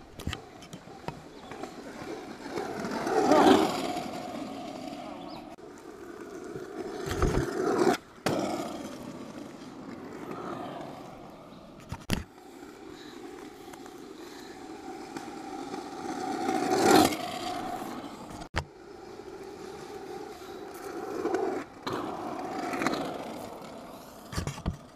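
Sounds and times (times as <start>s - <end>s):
tyre noise on road: 0.2s - 24.9s
scooter engines passing: 0.9s - 11.8s, 12.4s - 24.3s.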